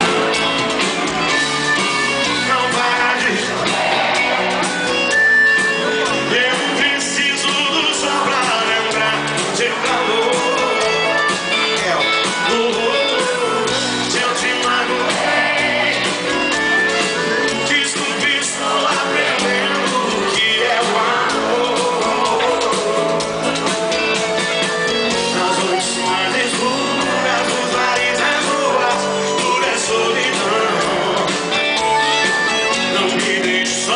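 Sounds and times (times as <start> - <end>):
amplified band with guitars: 0.0 - 33.9
duo singing: 1.0 - 33.9.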